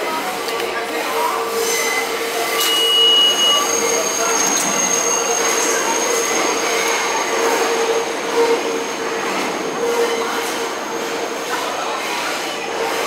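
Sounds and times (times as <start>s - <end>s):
subway train wheel squeal: 0.0s - 13.0s
train hum: 0.0s - 13.0s.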